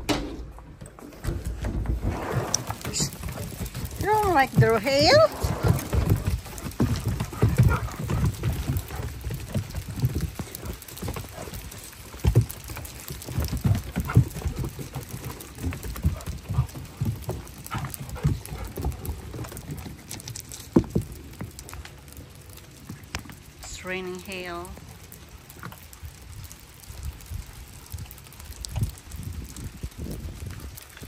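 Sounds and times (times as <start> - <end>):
hail pattering on wooden deck: 0.0 - 31.0.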